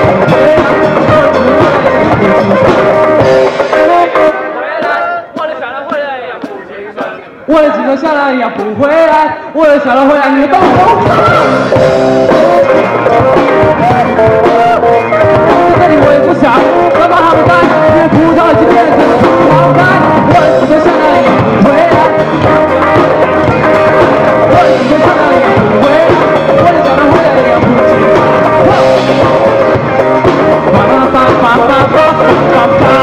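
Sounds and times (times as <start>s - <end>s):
live rock band playing: 0.0s - 33.0s
man singing: 0.0s - 33.0s.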